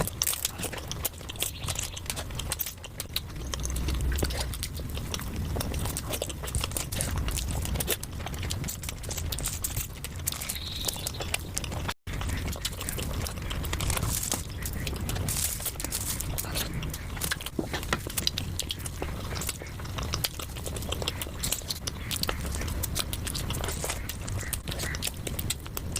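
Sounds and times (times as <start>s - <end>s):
chewing with wet mouth clicks: 0.0s - 25.9s.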